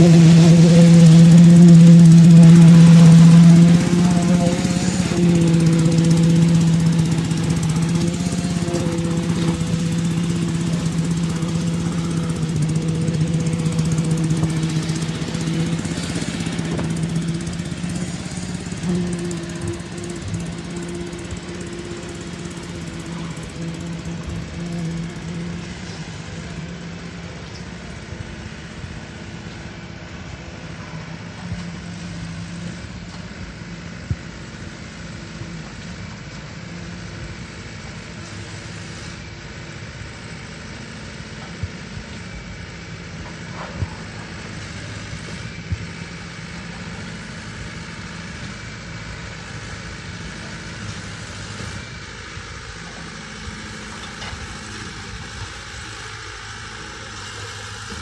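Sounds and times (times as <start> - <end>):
pump engine running: 0.0 - 58.0.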